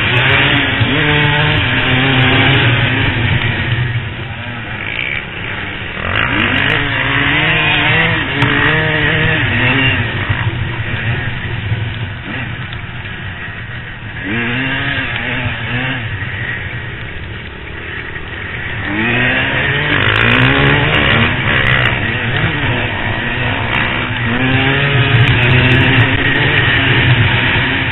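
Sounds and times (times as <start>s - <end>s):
off-road motorcycle engines revving: 0.0s - 27.9s.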